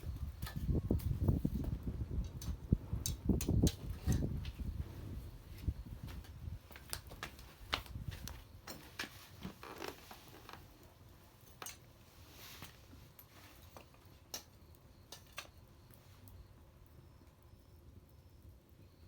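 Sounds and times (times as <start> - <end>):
fire pops and snaps: 0.0 - 17.4
bonfire crackling: 0.0 - 19.0.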